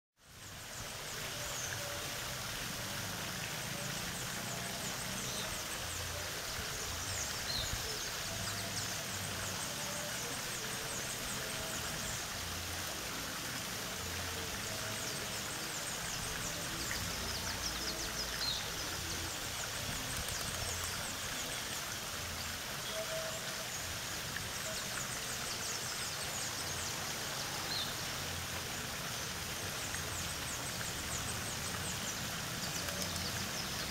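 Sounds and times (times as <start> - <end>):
fountain trickling and splashing: 0.2 - 33.9
birds chirping and singing: 3.8 - 28.1, 29.0 - 33.9.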